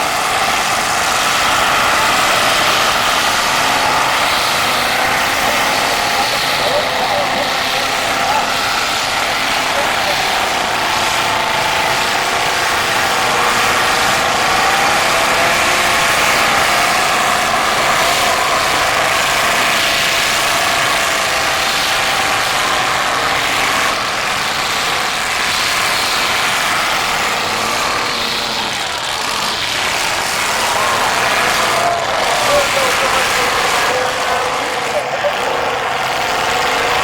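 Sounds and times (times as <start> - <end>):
car engines revving together: 0.0 - 37.0.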